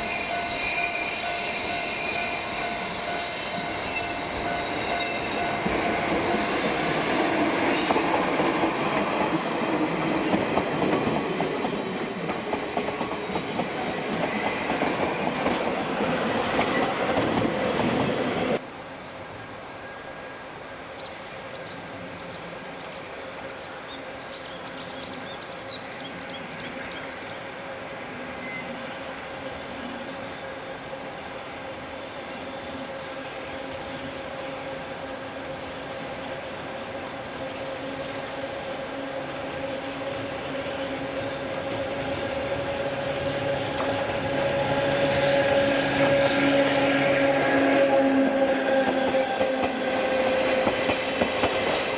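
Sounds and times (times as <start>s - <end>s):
wheels hissing on rail: 0.0s - 18.7s, 21.6s - 51.9s
train humming: 0.0s - 51.9s.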